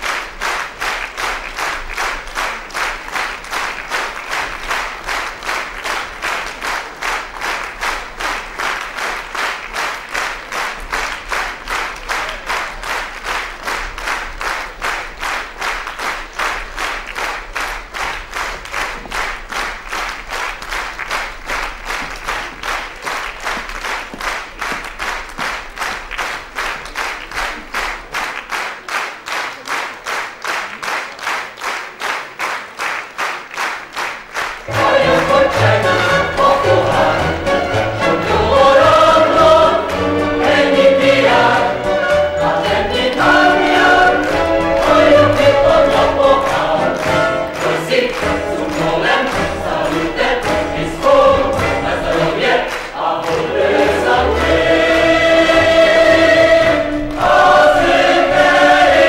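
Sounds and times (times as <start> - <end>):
audience clapping in unison: 0.0 - 59.0.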